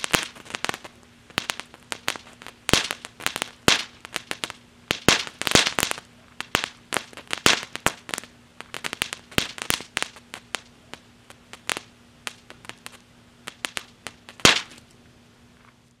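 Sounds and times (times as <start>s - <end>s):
firework crackling pops: 0.0s - 15.1s.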